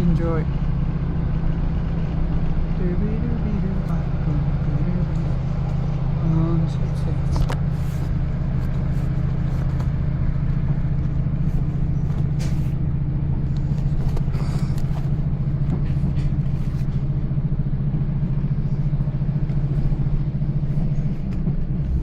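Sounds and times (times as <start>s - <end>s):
train engine throbbing hum: 0.0s - 22.0s.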